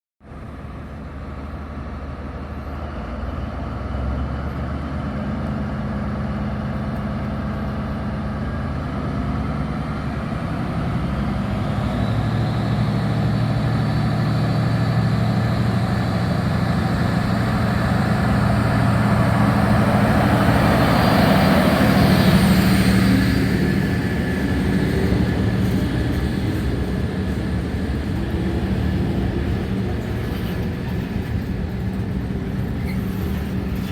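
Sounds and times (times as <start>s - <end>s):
diesel locomotive engine: 0.2s - 33.9s.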